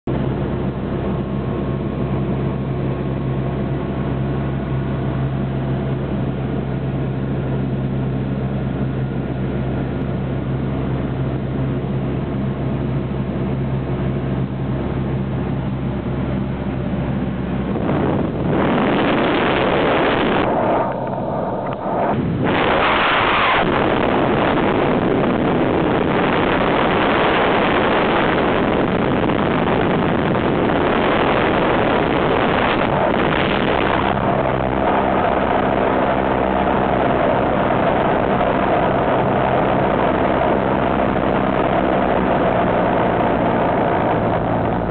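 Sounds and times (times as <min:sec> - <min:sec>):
light aircraft engine with propeller drone: 0:00.0 - 0:44.9
wind rush on microphone: 0:00.0 - 0:44.9.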